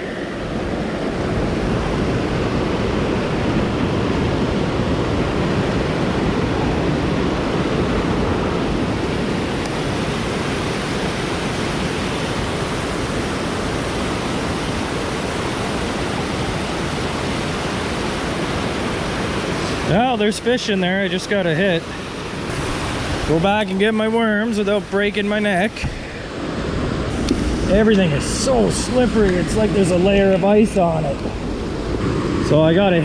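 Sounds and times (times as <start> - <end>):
creek water rushing over rocks: 0.0 - 33.0.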